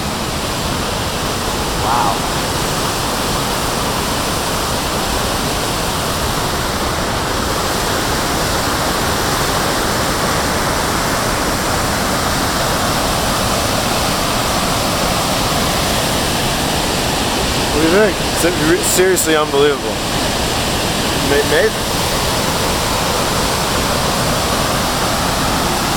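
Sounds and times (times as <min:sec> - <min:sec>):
large waterfall rushing: 0:00.0 - 0:25.9.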